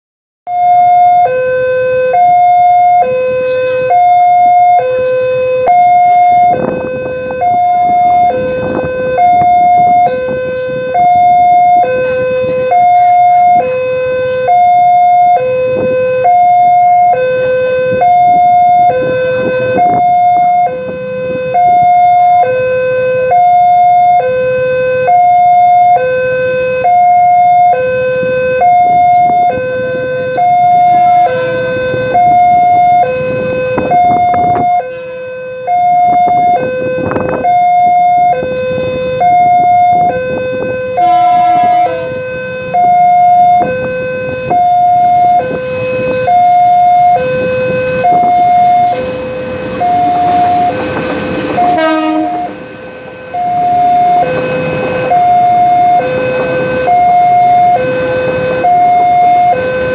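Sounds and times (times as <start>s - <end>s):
level crossing two-tone alarm: 0.5s - 59.9s.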